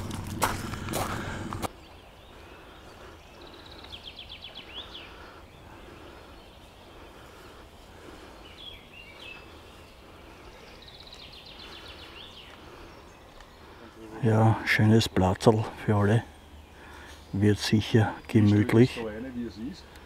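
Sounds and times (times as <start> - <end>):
outdoor background noise: 0.0 - 20.0
songbird singing: 0.0 - 20.0.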